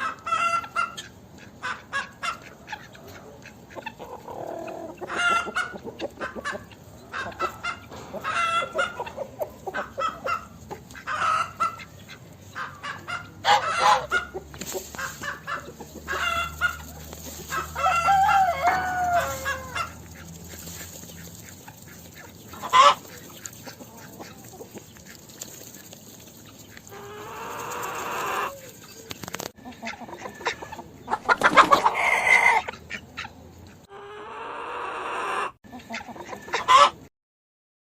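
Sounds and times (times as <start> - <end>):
hens clucking and cackling: 0.0 - 37.1.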